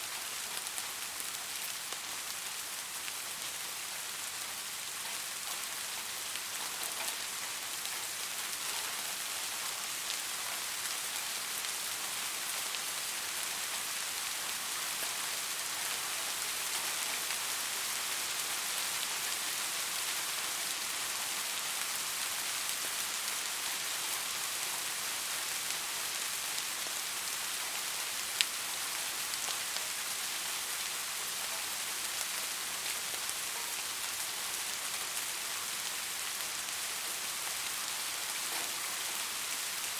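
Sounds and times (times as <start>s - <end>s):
soft rain pattering: 0.0s - 39.9s.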